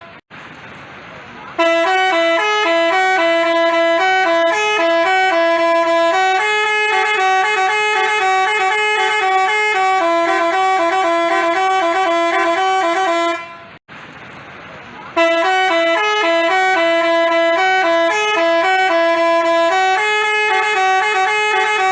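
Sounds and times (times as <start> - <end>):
multi-tone bus horn tune: 0.0 - 0.2, 1.5 - 13.8, 15.1 - 21.9.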